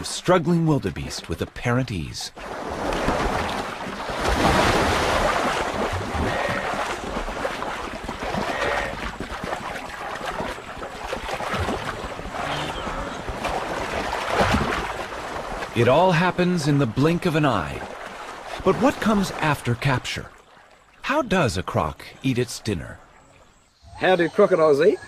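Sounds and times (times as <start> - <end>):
water splashing and churning: 0.0 - 23.6.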